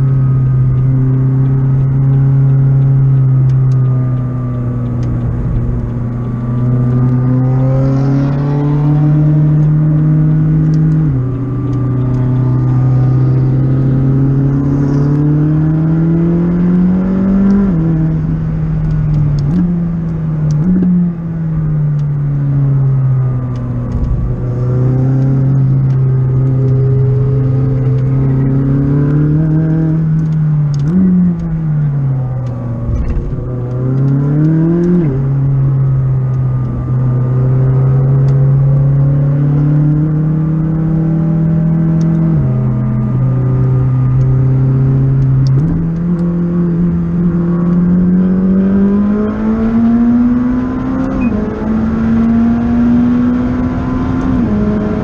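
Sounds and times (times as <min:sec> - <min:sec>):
car engine under load in cabin: 0:00.0 - 0:55.0.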